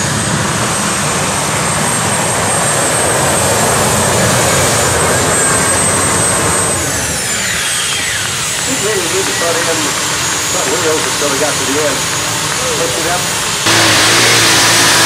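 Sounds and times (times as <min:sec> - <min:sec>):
aircraft engines thundering: 0:00.0 - 0:15.0
high engine whine: 0:00.0 - 0:15.0.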